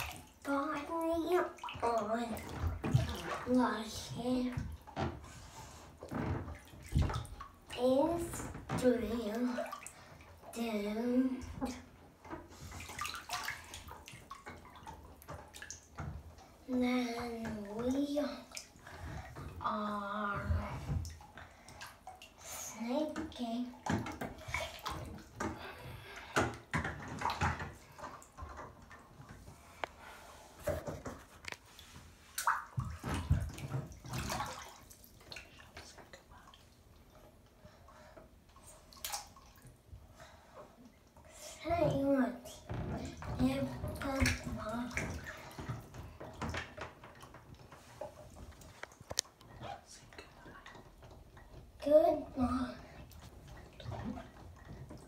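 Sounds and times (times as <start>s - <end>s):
bathwater sloshing and splashing: 0.0s - 55.0s.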